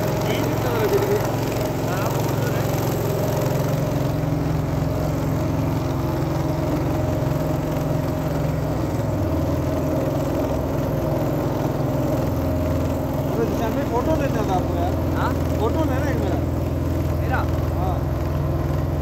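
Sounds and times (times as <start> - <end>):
small boat engine running: 0.0 - 19.0.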